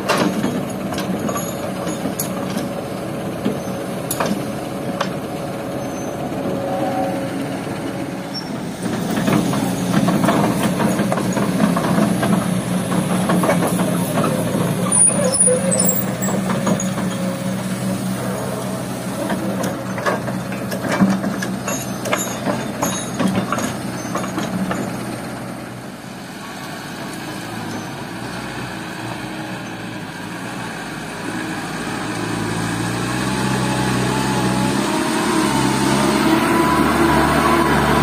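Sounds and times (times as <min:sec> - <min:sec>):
dump truck engine pulling away: 0:00.0 - 0:38.0
excavator diesel engine running: 0:00.0 - 0:38.0.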